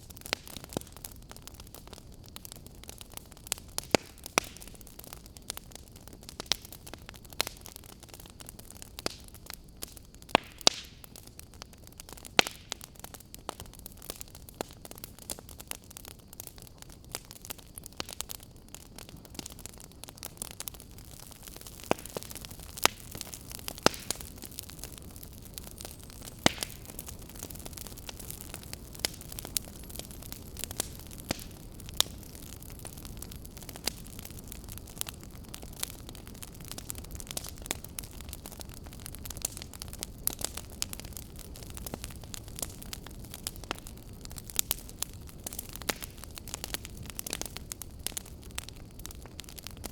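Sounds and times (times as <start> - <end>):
fire crackling and popping: 0.0 - 49.9
low fire rumble and hiss: 0.0 - 49.9.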